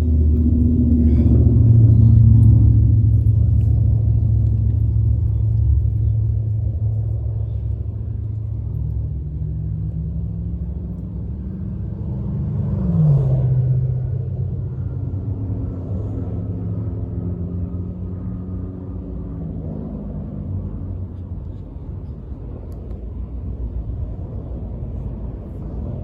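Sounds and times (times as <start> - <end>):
motor vehicle passing: 0.0 - 22.5.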